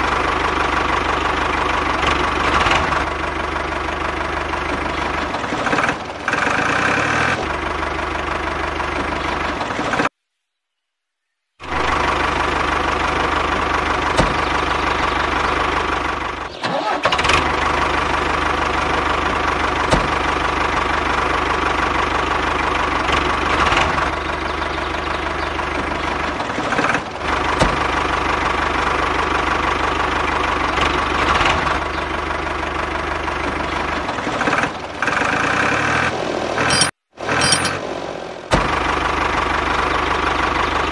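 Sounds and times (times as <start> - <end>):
model tractor engine running: 0.0 - 10.1, 11.7 - 40.9.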